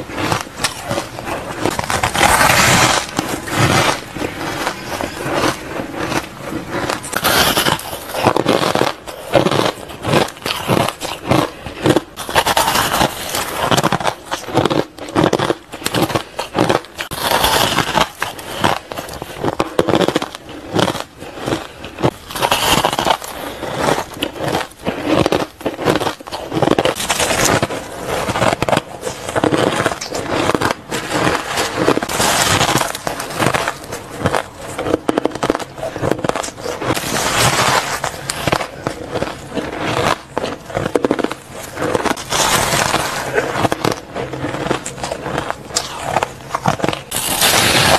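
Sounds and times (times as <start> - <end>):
ice crunching in mouth: 0.0 - 47.9.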